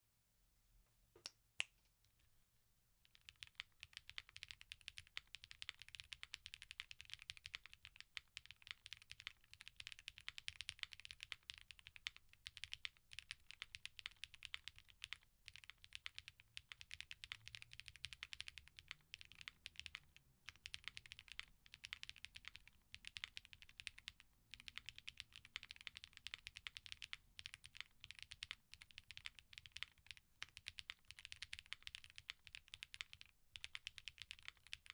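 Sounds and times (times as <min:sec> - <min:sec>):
mechanical keyboard typing: 0:03.1 - 0:34.9.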